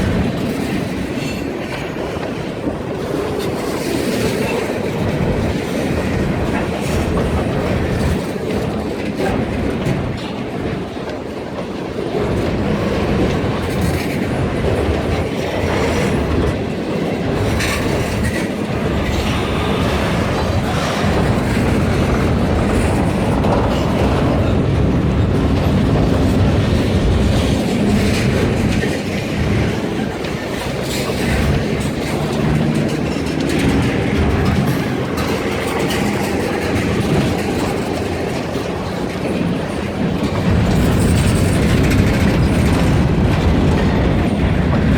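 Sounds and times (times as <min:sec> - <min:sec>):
train wheels clacking over rail joints: 0:00.0 - 0:44.9.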